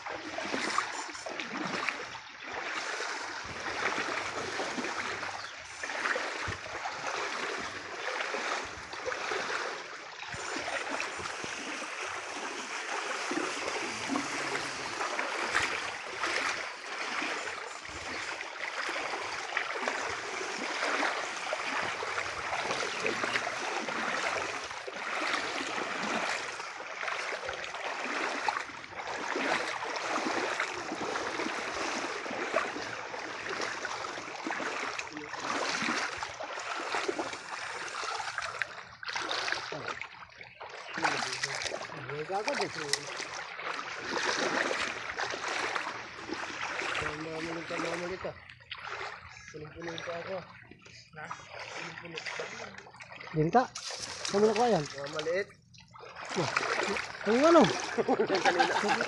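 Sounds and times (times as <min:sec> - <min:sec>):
people wading through water: 0:00.0 - 0:59.0.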